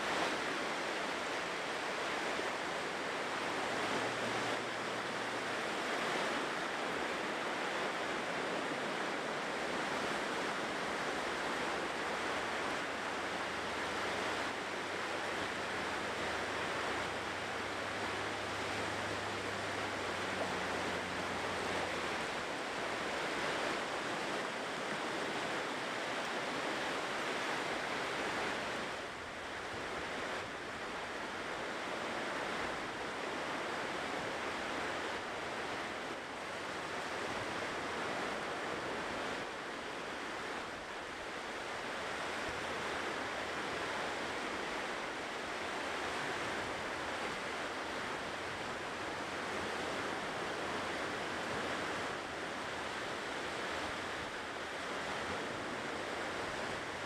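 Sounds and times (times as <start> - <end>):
ocean surf washing onto shore: 0.0 - 57.0.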